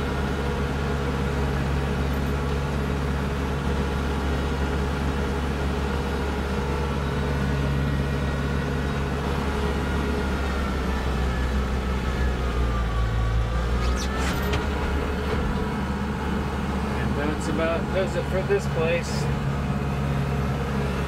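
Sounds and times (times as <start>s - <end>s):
tractor diesel engine drone: 0.0s - 21.0s.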